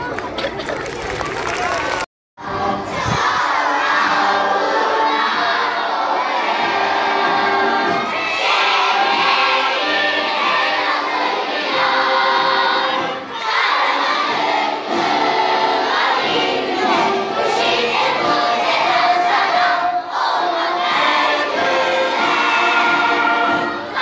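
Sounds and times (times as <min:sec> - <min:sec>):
children singing together: 0:02.4 - 0:24.0.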